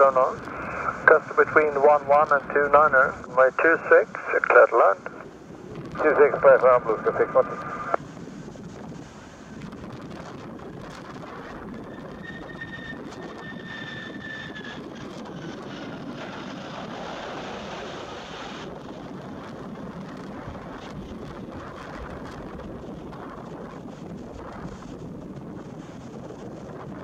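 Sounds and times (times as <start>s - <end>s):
wind buffeting microphone: 0.0s - 3.4s, 5.1s - 27.0s
faint high engine whine: 0.0s - 27.0s
jet engines rushing: 0.0s - 27.0s.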